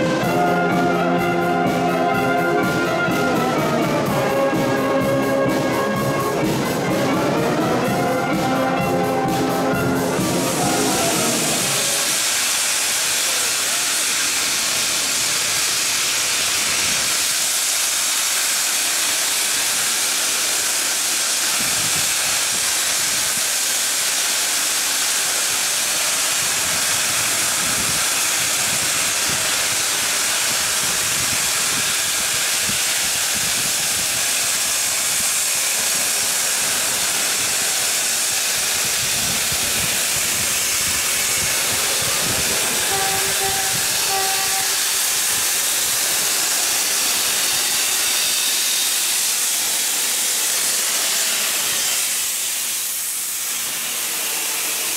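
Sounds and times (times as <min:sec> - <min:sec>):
steam locomotive hissing steam: 0:00.0 - 0:54.9.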